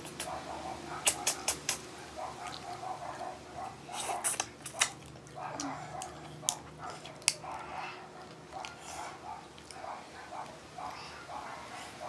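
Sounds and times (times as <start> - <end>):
wet chewing and lip smacking: 0.0 - 12.0.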